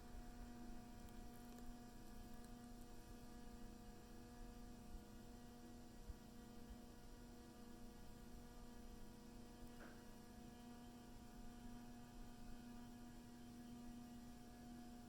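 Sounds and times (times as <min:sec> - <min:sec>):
ceiling fan electrical hum: 0:00.0 - 0:15.0.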